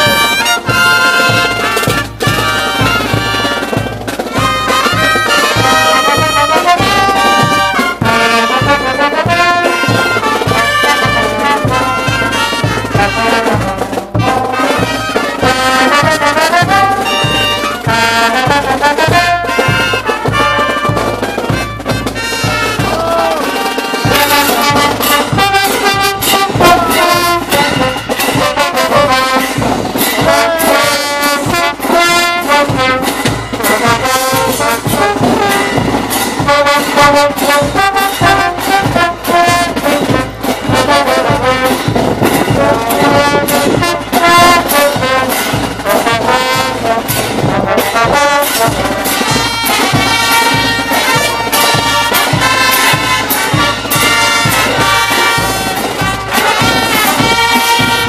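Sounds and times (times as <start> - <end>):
brass band playing dance tune: 0.0 - 58.0
steady drum beat: 0.0 - 58.0.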